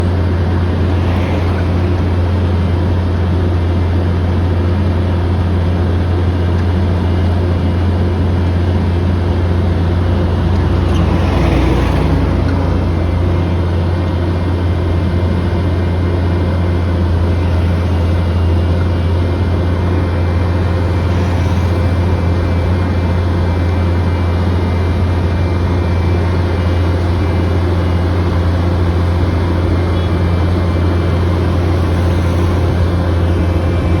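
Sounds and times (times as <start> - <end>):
diesel engine humming: 0.0 - 34.0.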